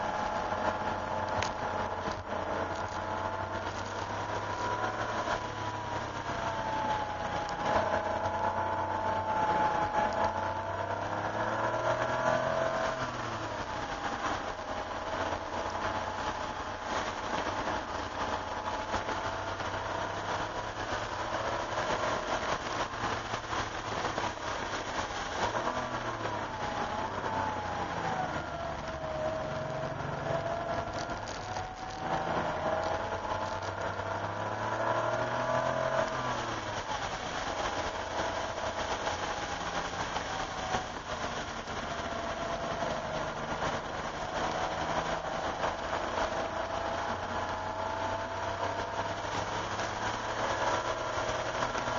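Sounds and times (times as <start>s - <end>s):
car engine accelerating and slowing: 0.0s - 51.9s
hiss of wet tyres: 0.0s - 51.9s.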